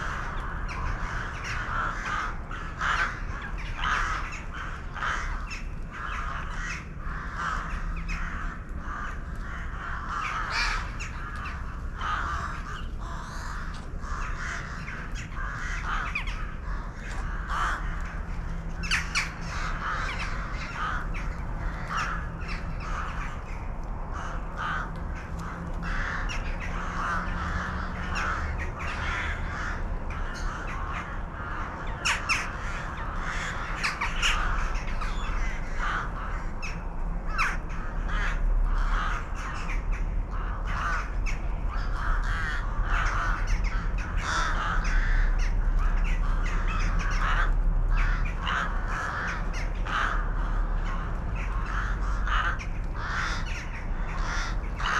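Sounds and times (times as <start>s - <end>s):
crows cawing: 0.0s - 54.9s
low steady hum: 0.0s - 54.9s.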